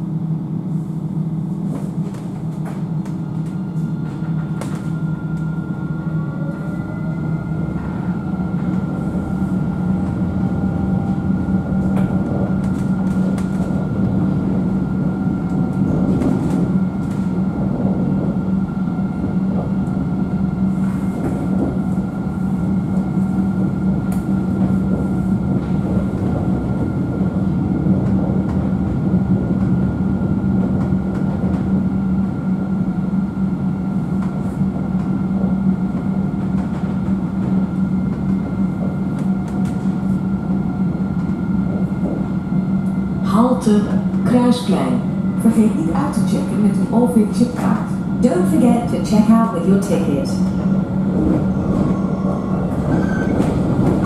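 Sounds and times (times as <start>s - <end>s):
tram low hum: 0.0s - 54.0s
tram motor whine: 0.0s - 54.0s.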